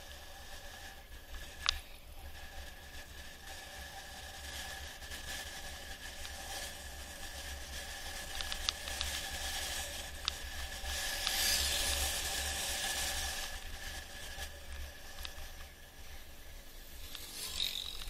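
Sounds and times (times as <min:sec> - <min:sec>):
faint steady whine: 0:00.0 - 0:18.0
wind rushing over camera: 0:00.0 - 0:18.0.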